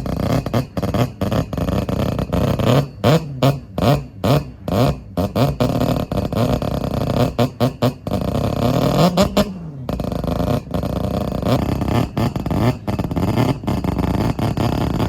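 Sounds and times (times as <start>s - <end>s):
car engine revving in blips: 0.0s - 15.0s
exhaust crackling pops: 0.0s - 15.0s.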